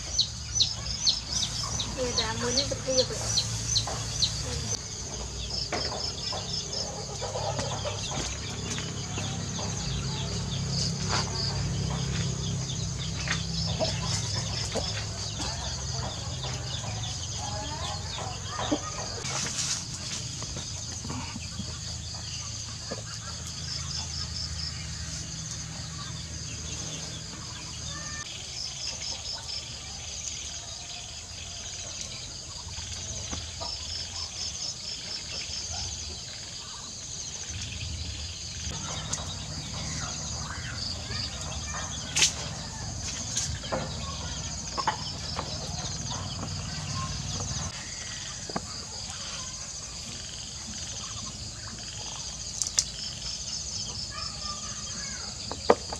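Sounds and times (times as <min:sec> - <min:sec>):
night insects trilling: 0:00.0 - 0:55.9.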